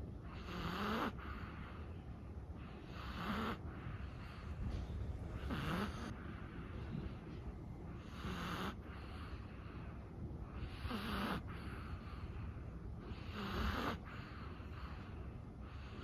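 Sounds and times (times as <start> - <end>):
dog snoring breaths: 0.1 - 16.0.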